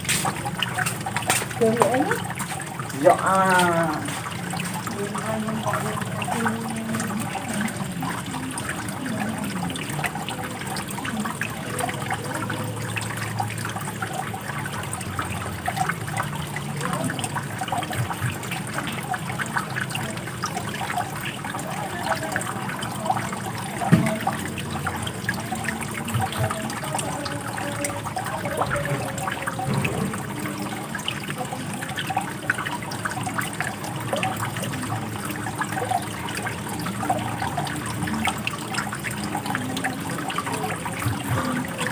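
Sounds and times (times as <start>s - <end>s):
water trickling and gurgling: 0.0s - 41.9s.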